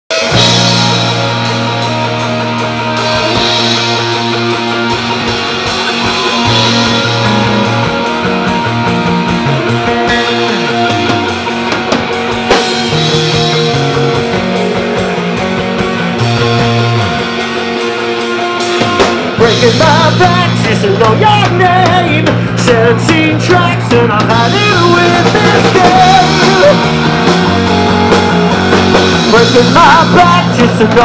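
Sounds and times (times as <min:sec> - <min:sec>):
drum kit with fast cymbal beat: 0:00.1 - 0:31.0
electric bass line: 0:00.1 - 0:31.0
electric guitars: 0:00.1 - 0:31.0.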